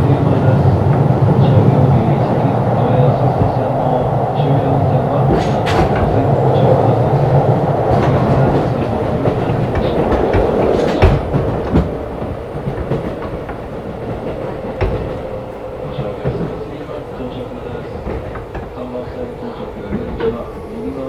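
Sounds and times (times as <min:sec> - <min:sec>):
train rumble and motor hum: 0:00.0 - 0:21.0
wheels clacking over rail joints: 0:00.0 - 0:21.0.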